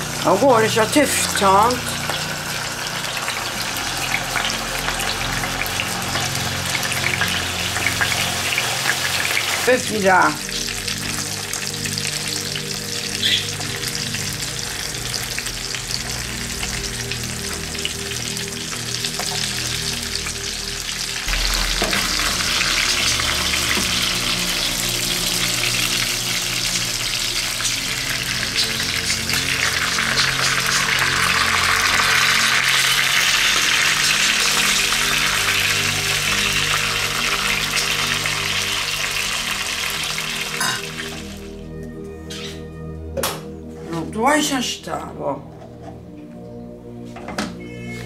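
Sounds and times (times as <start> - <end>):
fish sizzling in a pan: 0.0 - 41.5.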